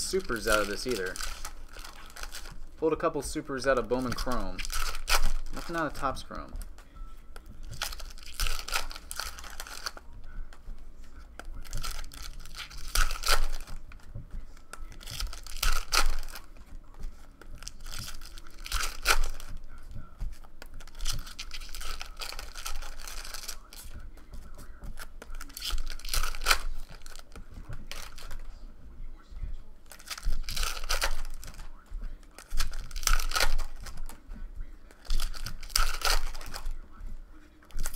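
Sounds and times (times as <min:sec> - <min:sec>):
foil wrappers tearing and crinkling: 0:00.0 - 0:06.8, 0:07.6 - 0:10.0, 0:11.6 - 0:14.0, 0:14.6 - 0:16.7, 0:17.5 - 0:24.0, 0:24.8 - 0:28.6, 0:29.8 - 0:34.2, 0:34.9 - 0:36.9, 0:37.6 - 0:37.9.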